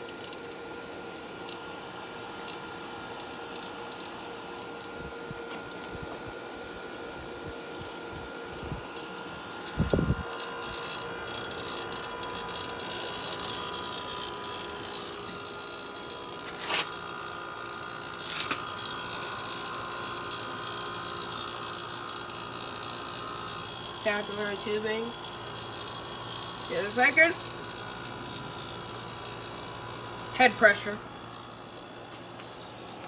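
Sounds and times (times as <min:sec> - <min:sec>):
air conditioner hum and whine: 0:00.0 - 0:33.0.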